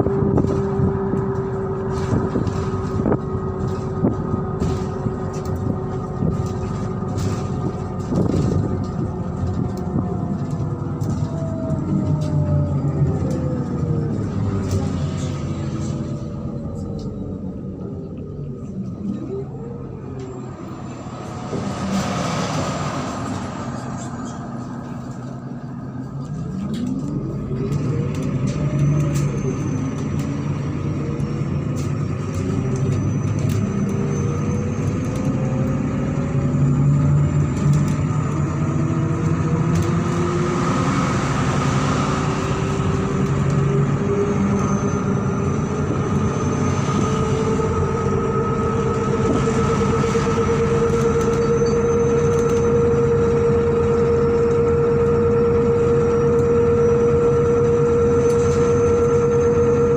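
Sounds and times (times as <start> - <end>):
bus engine humming: 0.0 - 59.9
drivetrain whine: 0.0 - 59.9.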